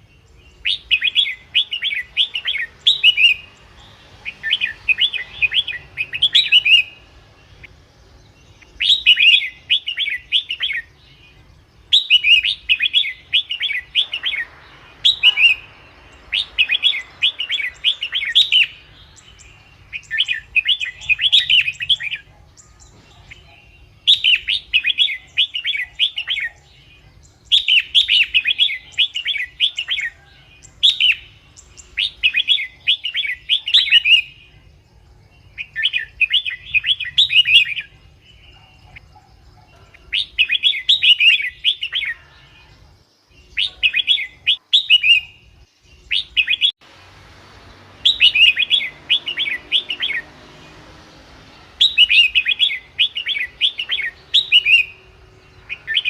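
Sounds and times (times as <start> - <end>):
bulbul singing warbling phrases: 0.0 - 56.0.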